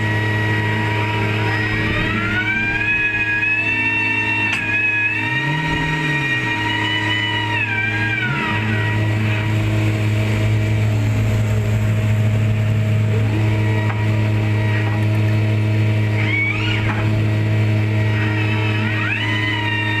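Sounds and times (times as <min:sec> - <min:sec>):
low bass note: 0:00.0 - 0:19.0
engine humming: 0:00.0 - 0:20.0
high whine: 0:00.0 - 0:20.0.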